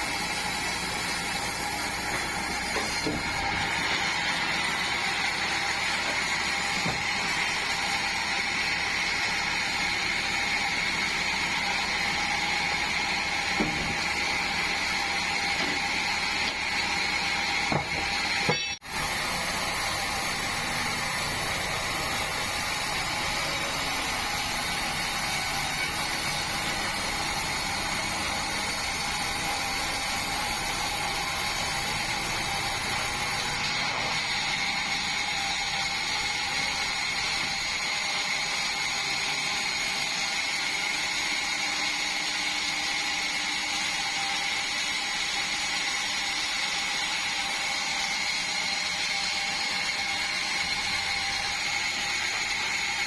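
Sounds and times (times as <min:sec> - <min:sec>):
band saw whine sawing log: 0:00.0 - 0:53.0.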